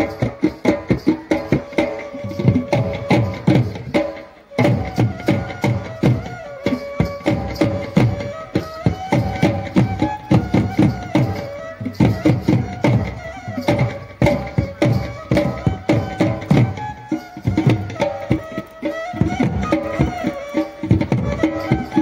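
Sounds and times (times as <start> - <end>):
folk music with fast drum beats: 0.0 - 22.0.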